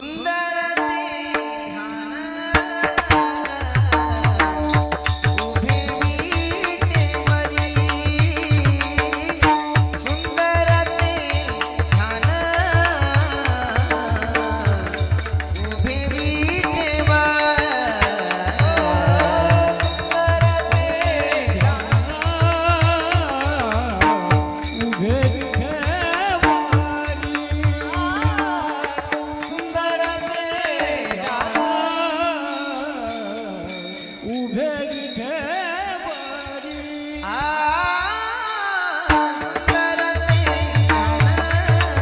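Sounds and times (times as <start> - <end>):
man singing: 0.0 - 42.0.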